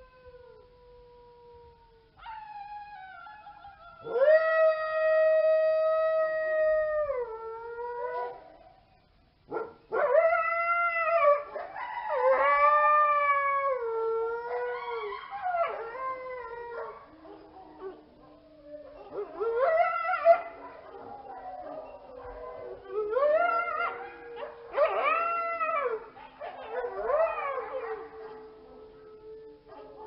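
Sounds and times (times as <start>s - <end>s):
coyotes howling: 0.0s - 30.0s.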